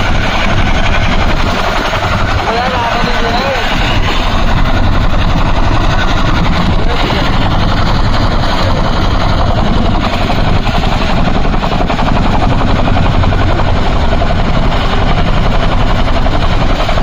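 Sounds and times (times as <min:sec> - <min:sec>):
helicopter rotor blades beating: 0:00.0 - 0:17.0
turbine engines rushing: 0:00.0 - 0:17.0.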